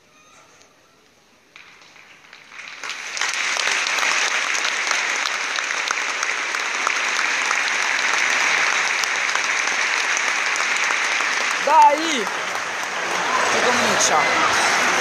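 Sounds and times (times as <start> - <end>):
stadium crowd applauding: 1.4 - 15.0.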